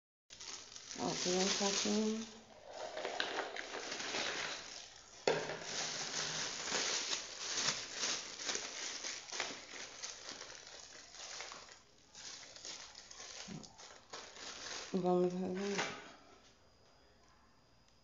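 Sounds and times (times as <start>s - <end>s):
plastic bag crinkling: 0.3s - 16.1s.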